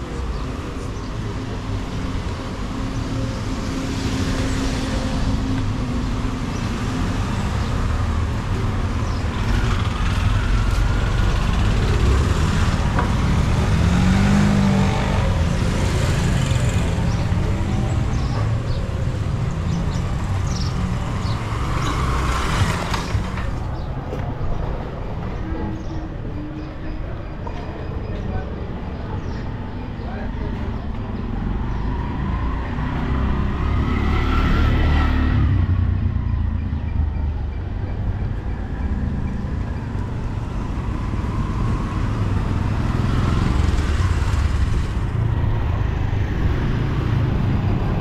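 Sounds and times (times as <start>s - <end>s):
vehicle engines passing by: 0.0s - 48.0s.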